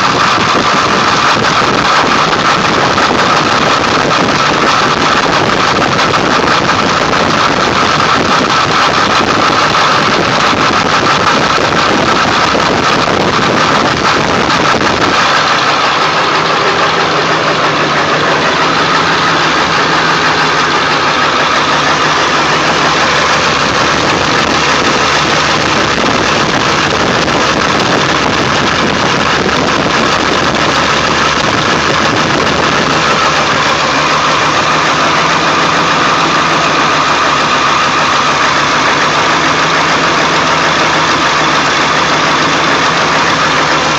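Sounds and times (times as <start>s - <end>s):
diesel engine idling roughly: 0.0s - 43.9s.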